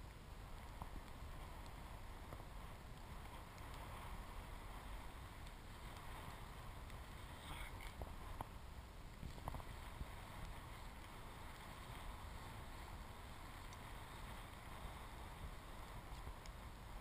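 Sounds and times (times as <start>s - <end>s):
faint wind rumble on microphone: 0.0s - 17.0s.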